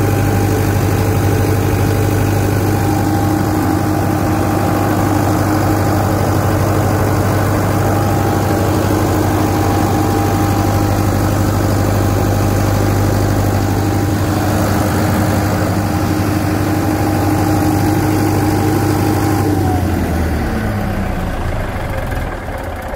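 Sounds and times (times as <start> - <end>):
diesel generator running: 0.0 - 22.9.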